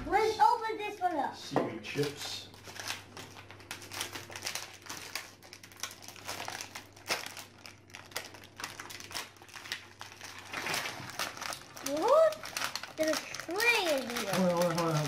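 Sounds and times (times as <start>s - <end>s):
plastic wrappers crinkling: 2.0s - 15.0s.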